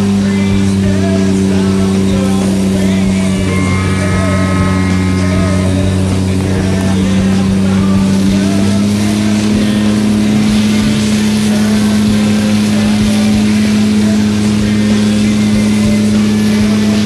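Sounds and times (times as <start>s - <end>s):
pump engine droning: 0.0s - 17.0s
water jets hissing: 0.0s - 17.0s.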